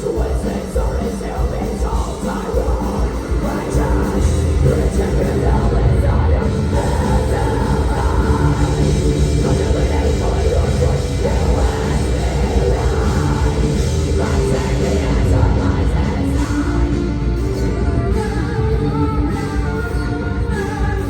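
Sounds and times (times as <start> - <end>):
distorted electric guitar: 0.0 - 21.0
heavy metal band playing: 0.0 - 21.0.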